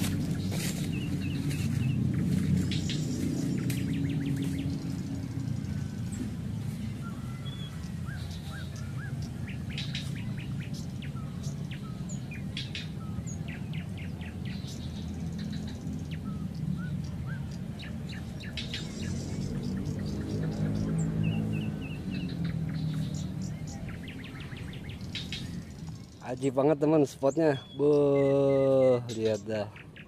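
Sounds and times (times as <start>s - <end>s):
low hum: 0.0s - 26.2s
small birds chirping: 0.0s - 30.0s.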